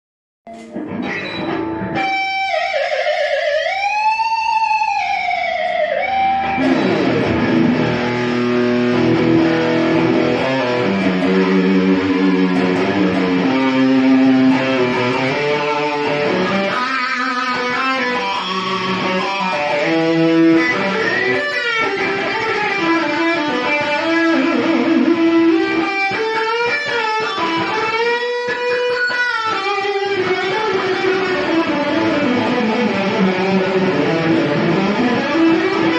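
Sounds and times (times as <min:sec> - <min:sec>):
electric guitar playing: 0:00.5 - 0:35.9.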